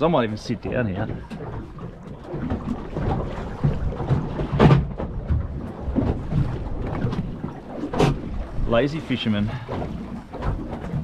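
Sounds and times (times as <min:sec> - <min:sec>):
water against boat hull: 0:00.0 - 0:11.0.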